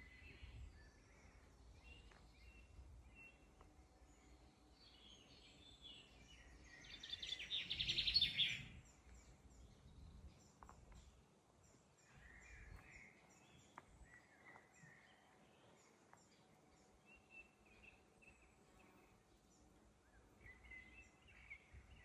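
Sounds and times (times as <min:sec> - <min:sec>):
birds singing: 0:00.0 - 0:22.0.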